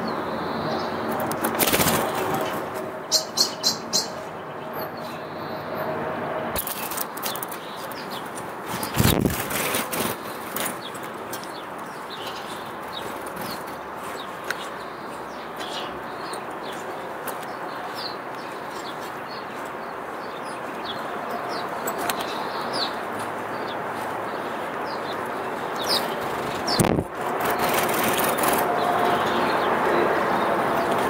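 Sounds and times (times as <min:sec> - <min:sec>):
small birds chirping: 0:00.0 - 0:05.8, 0:06.6 - 0:31.0.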